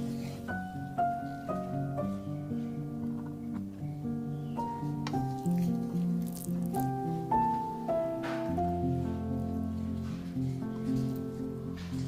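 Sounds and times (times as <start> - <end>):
gentle plucked-string melody: 0.0 - 12.0.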